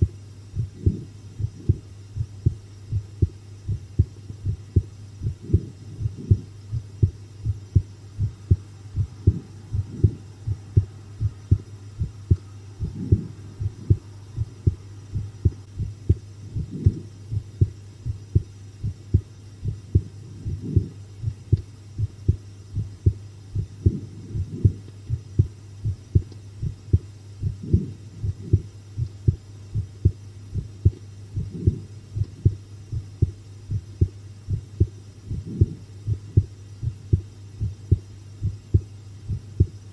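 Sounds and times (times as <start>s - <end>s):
heartbeat thumps: 0.0s - 39.9s
steady low hum: 0.0s - 39.9s.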